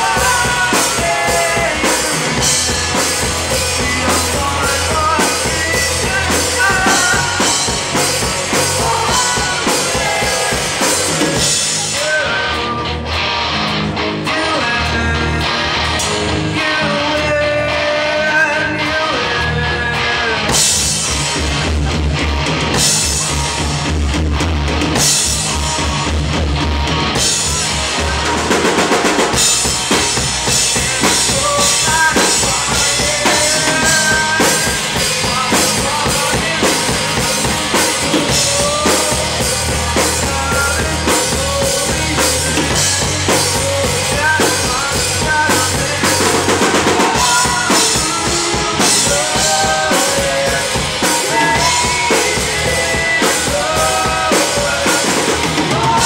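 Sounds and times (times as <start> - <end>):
drum kit beat: 0.0 - 17.8, 19.8 - 56.0
rock band playing: 0.0 - 56.0.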